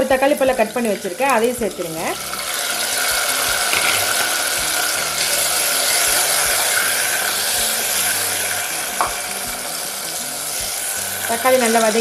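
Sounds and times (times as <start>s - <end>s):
hot oil sizzling in a pot: 0.0s - 12.0s.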